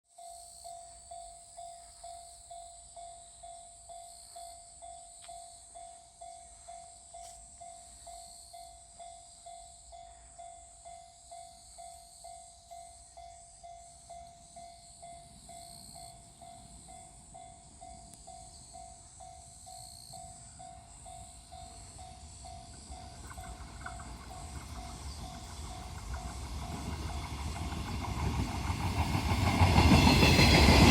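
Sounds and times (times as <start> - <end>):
low rumble of train: 0.2 - 30.9.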